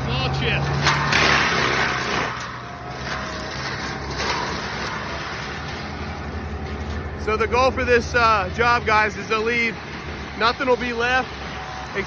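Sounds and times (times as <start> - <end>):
diesel engine running: 0.0 - 12.0
mulcher grinding brush: 0.0 - 12.0.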